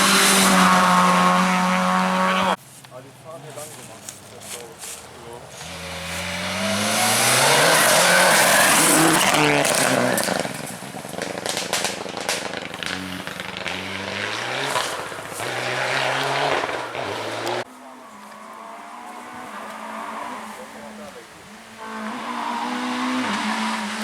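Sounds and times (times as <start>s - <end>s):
rally car passing at speed: 0.0s - 2.6s, 5.5s - 24.0s
distant car engine: 0.0s - 24.0s
tyre and road noise: 0.0s - 24.0s.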